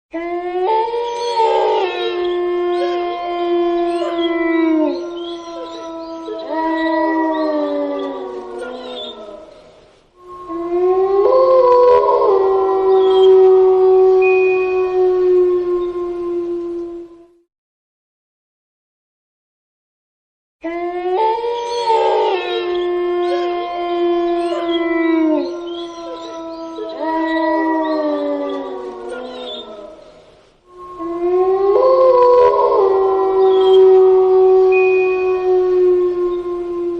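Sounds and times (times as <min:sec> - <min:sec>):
wolf howling: 0:00.1 - 0:17.4, 0:20.6 - 0:36.9
fainter wavering howls: 0:00.2 - 0:17.4, 0:20.7 - 0:36.9.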